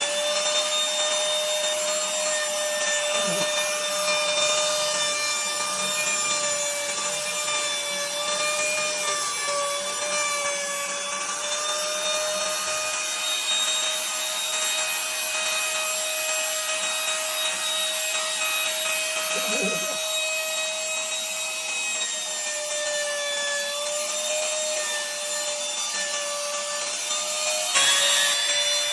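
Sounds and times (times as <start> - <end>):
electric router whining: 0.0 - 28.9
router bit cutting wood: 0.0 - 28.9.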